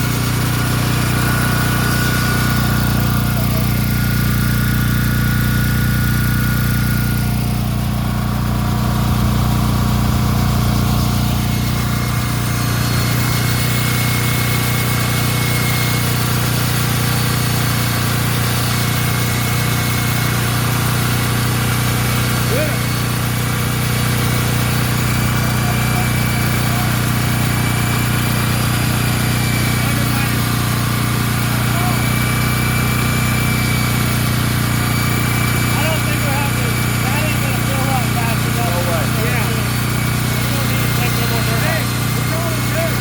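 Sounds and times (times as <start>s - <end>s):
engine humming steadily: 0.0s - 43.0s.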